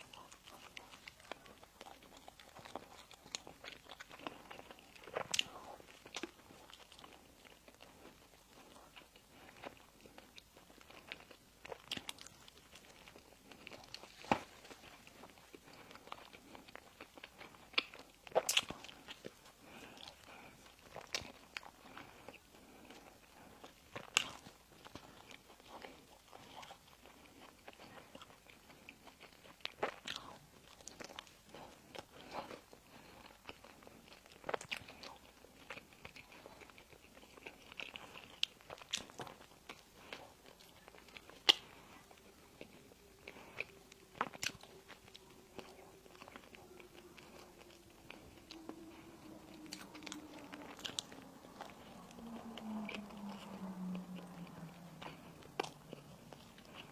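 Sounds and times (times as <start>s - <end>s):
person eating crisp bites: 0.0s - 56.9s.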